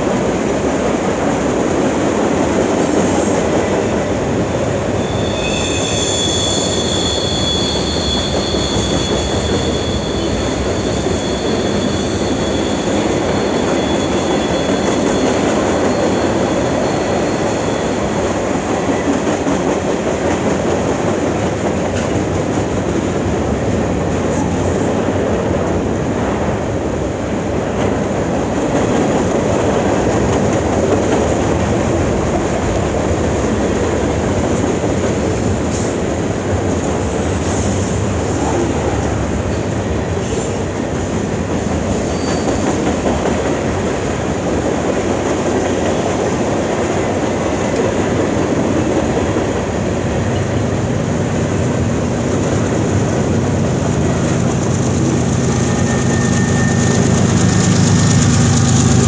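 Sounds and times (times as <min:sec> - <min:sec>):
diesel locomotive drone: 0:00.0 - 0:59.0
train wheels clattering on rail: 0:00.0 - 0:59.0.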